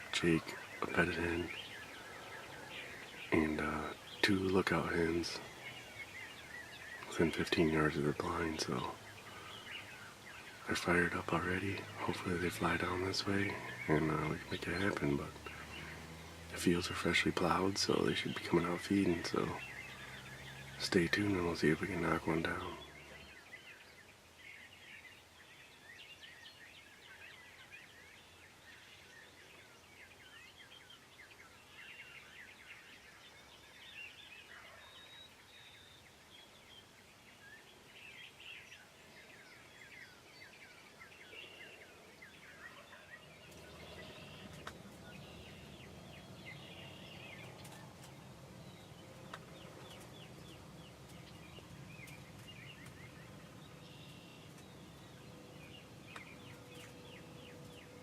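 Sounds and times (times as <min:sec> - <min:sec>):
low steady noise: 0:00.0 - 0:58.0
songbirds chirping: 0:00.0 - 0:58.0.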